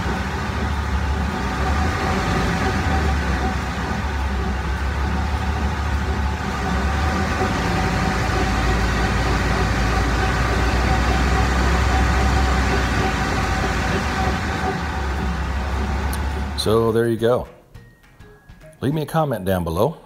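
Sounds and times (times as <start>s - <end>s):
differential droning with whine: 0.0s - 18.9s.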